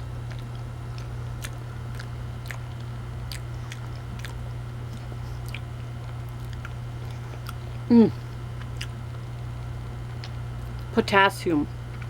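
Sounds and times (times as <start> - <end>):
person chewing: 0.0 - 9.3, 10.1 - 10.9.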